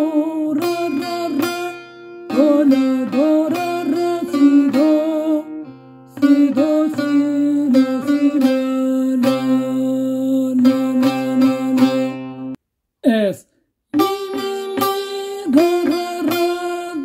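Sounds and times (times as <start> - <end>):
plucked lute folk melody: 0.0 - 12.6, 14.0 - 17.0.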